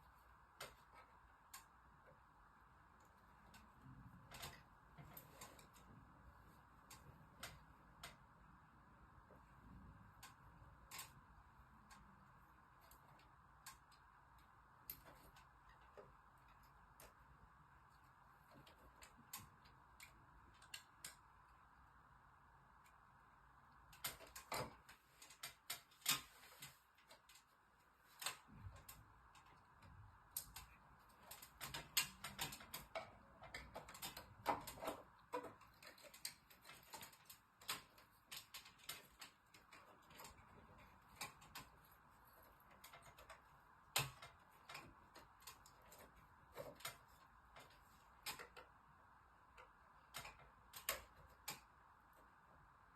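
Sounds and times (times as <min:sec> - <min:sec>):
faint steady hiss: 0:00.0 - 0:52.9
light clicks and taps: 0:00.0 - 0:52.9.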